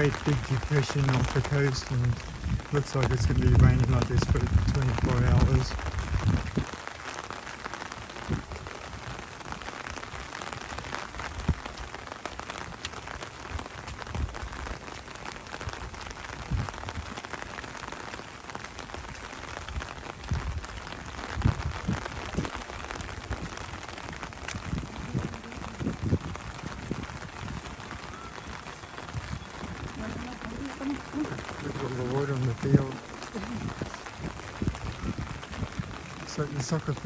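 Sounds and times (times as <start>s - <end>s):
rain falling: 0.0s - 37.0s.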